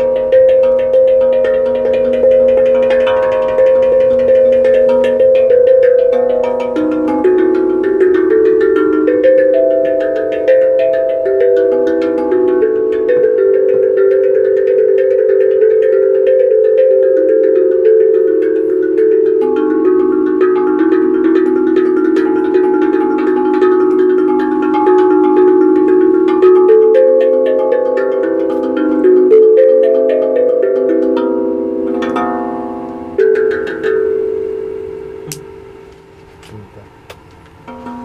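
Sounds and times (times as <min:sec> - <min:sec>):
tuned percussion melody: 0:00.0 - 0:38.0.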